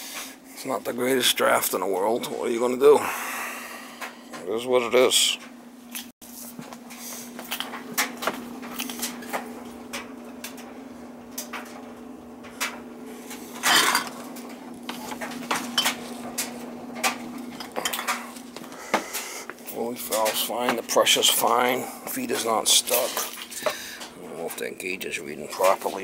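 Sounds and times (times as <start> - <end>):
oil burner humming: 0.0 - 26.0.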